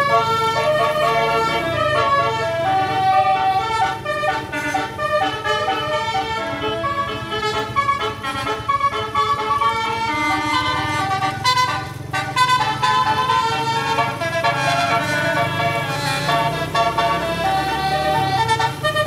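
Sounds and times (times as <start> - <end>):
bus engine rumbling: 0.0 - 19.0
bus horn playing a tune: 0.0 - 19.0.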